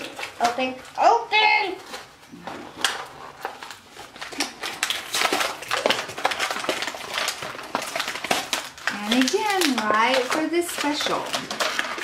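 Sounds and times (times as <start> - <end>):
foil packet crinkling and tearing: 0.0 - 12.0.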